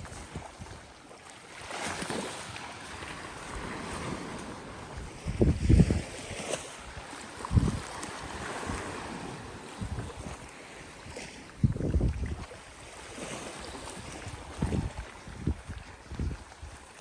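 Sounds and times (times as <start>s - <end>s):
wind buffeting microphone: 0.0s - 0.9s, 2.0s - 17.0s
small waves against shore: 0.0s - 17.0s.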